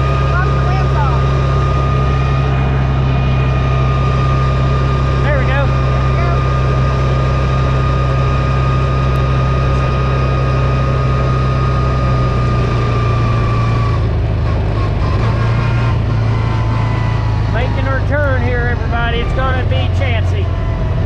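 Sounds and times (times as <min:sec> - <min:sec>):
vehicle interior driving drone: 0:00.0 - 0:21.0.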